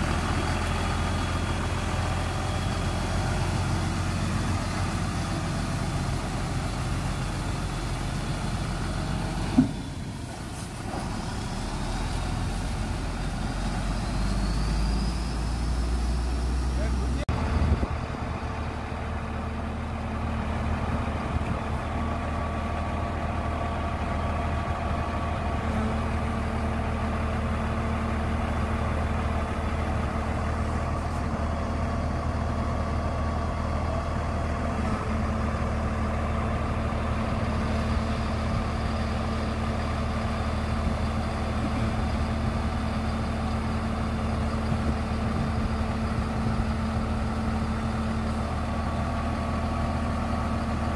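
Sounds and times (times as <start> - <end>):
diesel engine running: 0.0 - 50.9
faint engine whine: 0.0 - 50.9.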